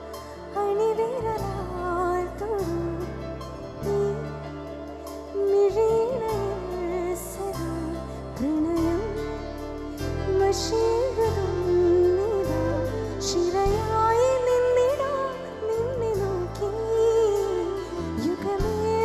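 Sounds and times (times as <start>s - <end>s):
woman singing into a microphone: 0.0s - 19.0s.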